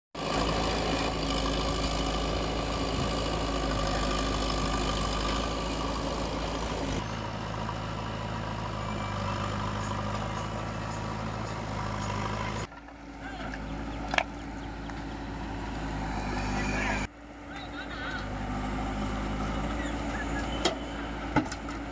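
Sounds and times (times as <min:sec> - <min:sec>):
heavy diesel engine running: 0:00.2 - 0:21.9.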